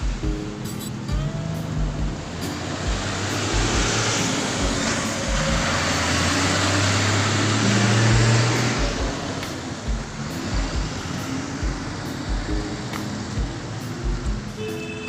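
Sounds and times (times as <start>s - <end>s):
low thuds: 0.0s - 14.6s
vehicle engine and tyres rushing: 0.0s - 15.0s.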